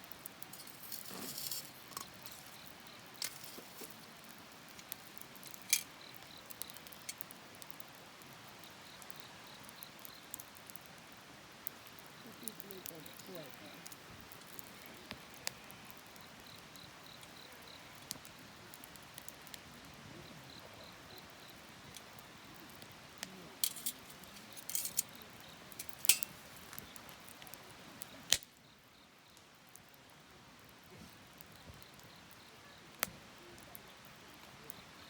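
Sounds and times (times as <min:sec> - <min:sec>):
wood fire crackling and popping: 0:00.0 - 0:35.0
cricket chirping: 0:00.1 - 0:30.2, 0:30.9 - 0:35.0.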